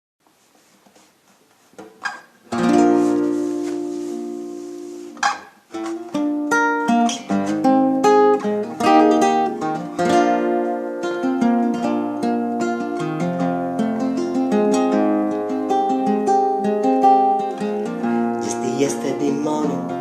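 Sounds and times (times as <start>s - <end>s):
acoustic guitar: 0.2s - 20.0s.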